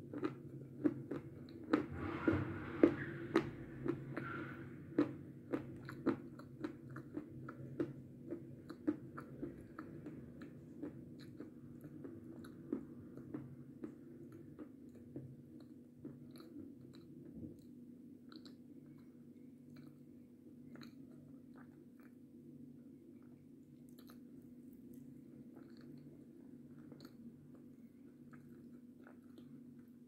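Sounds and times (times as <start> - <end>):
chewing crunches: 0.0 - 1.9, 2.9 - 20.1, 20.7 - 22.3, 23.2 - 30.0.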